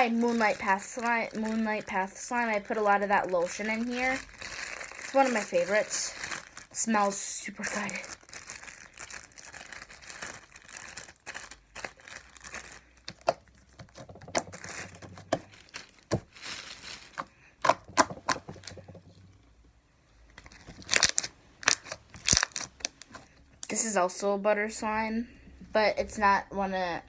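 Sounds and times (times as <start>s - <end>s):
plastic bag crinkling: 0.0s - 19.4s, 20.2s - 23.3s.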